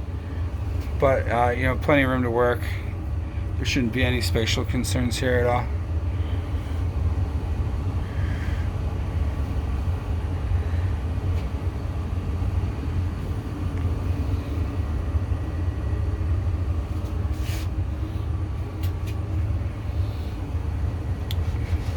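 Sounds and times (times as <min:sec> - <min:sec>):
furnace low rumble: 0:00.0 - 0:21.9.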